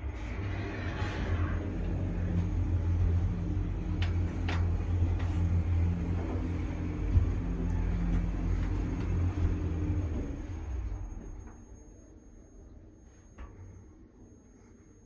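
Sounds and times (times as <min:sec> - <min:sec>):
elevator rumble and hum: 0:00.0 - 0:15.0.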